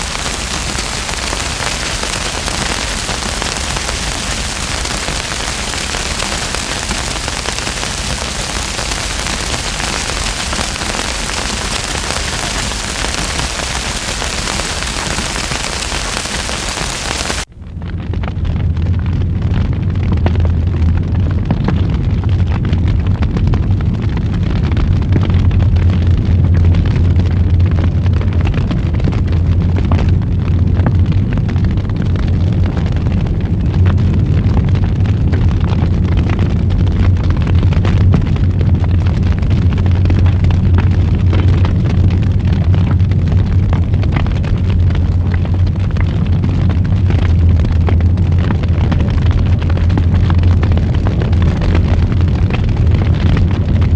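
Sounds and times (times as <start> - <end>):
fire crackling and popping: 0.0 - 53.9
fire flames rushing: 0.0 - 53.9.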